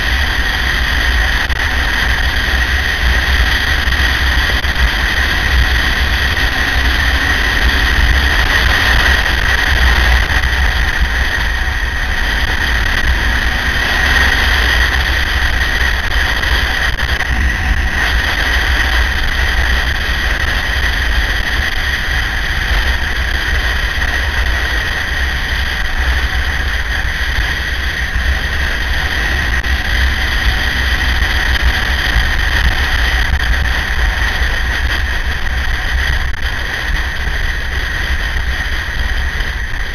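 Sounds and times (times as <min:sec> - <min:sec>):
constant high whine: 0:00.0 - 0:39.9
motorcycle engine drone: 0:00.0 - 0:39.9
wind rumble on microphone: 0:00.0 - 0:39.9.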